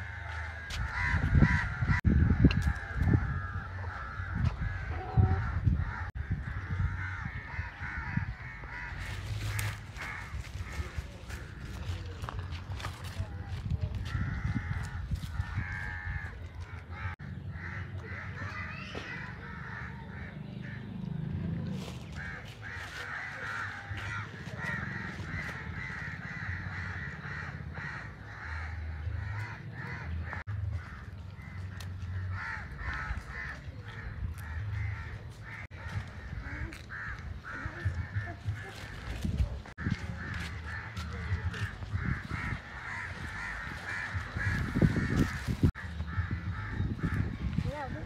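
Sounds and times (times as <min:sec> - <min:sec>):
crows cawing: 0:00.0 - 0:21.1, 0:21.7 - 0:48.0.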